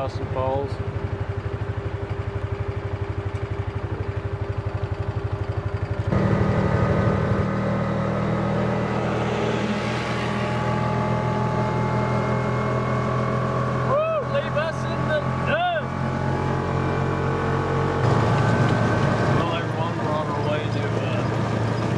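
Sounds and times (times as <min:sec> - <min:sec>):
utility vehicle engine: 0:00.0 - 0:21.9.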